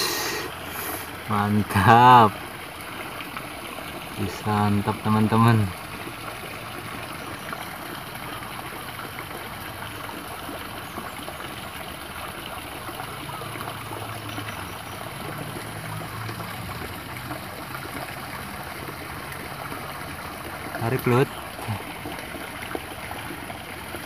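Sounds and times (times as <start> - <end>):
water trickling in a drain: 0.0 - 24.0.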